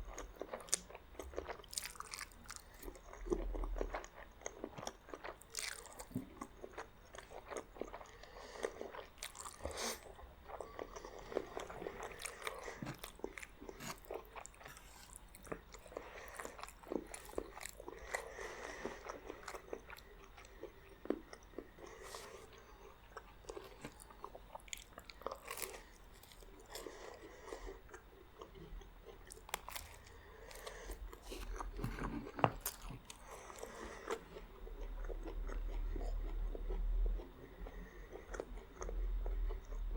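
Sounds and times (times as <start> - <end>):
food crunching: 0.1 - 39.9.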